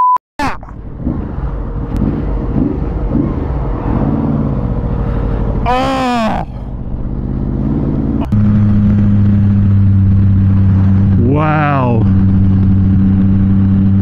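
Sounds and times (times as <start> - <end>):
motorcycle engine deep drone: 0.6 - 14.0
motorcycle engine running: 0.7 - 14.0.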